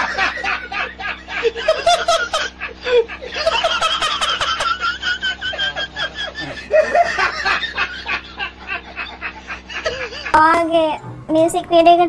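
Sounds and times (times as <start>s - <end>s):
person laughing: 0.0s - 10.4s.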